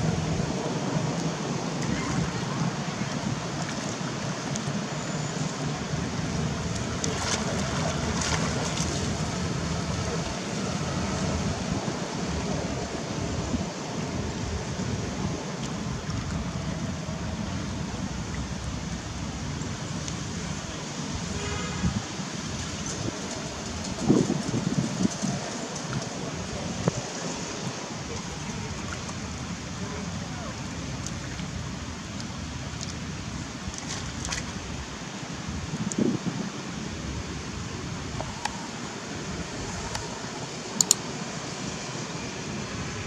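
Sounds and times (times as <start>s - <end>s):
water splashing and churning: 0.0s - 43.0s.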